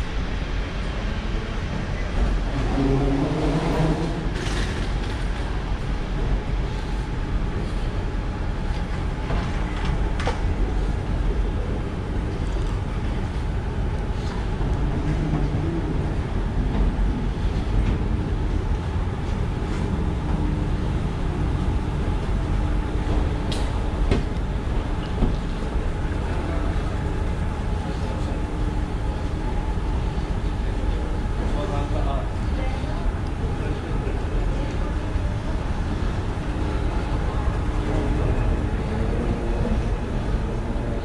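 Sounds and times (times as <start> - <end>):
moving walkway rumble: 0.0 - 41.0.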